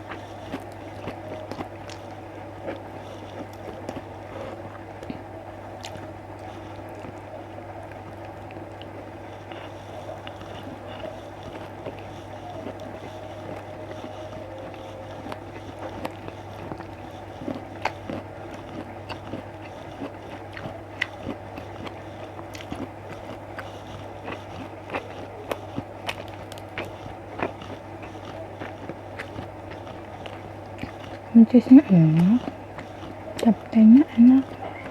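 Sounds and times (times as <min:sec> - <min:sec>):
person chewing food: 0:00.0 - 0:34.9
steady background hum: 0:00.0 - 0:34.9.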